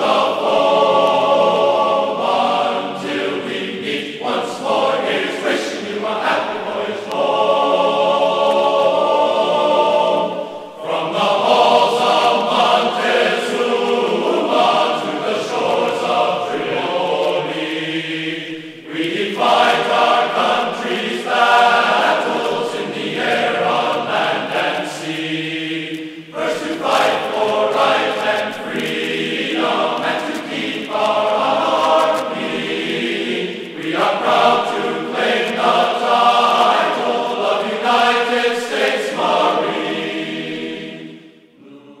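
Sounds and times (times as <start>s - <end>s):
choir singing held chords: 0.0s - 42.0s.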